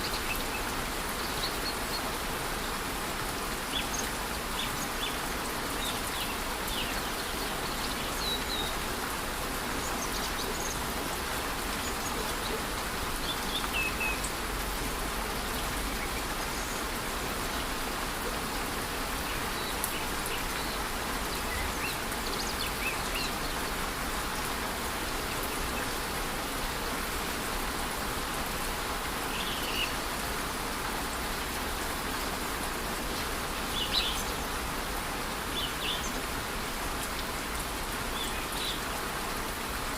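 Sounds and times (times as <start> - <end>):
light rain: 0.0 - 39.9.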